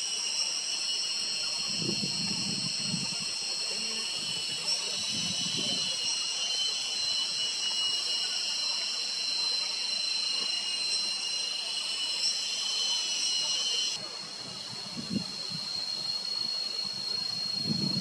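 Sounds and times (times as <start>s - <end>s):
shrill insect chorus: 0.0s - 18.0s.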